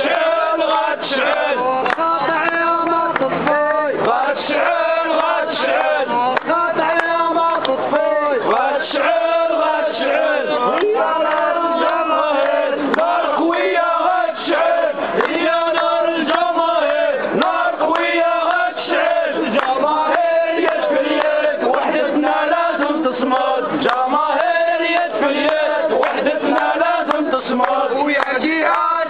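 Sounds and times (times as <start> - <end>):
men chanting slogans: 0.0 - 29.0.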